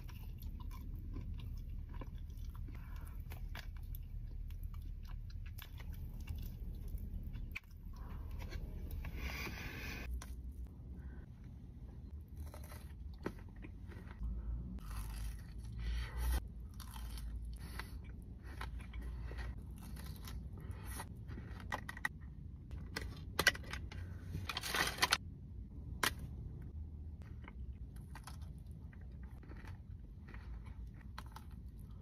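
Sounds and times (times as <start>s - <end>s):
chewing and crunching chocolate: 0.0s - 9.2s, 12.0s - 23.9s, 25.8s - 32.0s.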